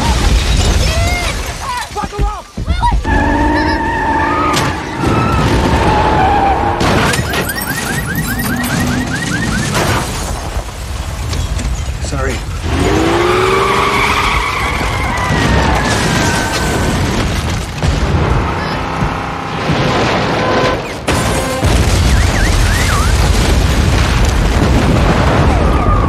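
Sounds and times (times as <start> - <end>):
earthquake rumbling and crashing: 0.0 - 26.0.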